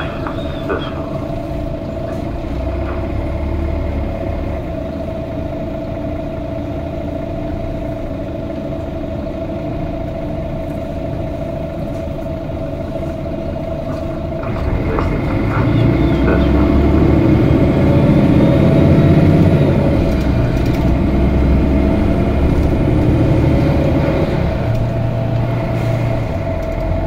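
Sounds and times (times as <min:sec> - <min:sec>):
bus diesel engine idling: 0:00.0 - 0:27.0.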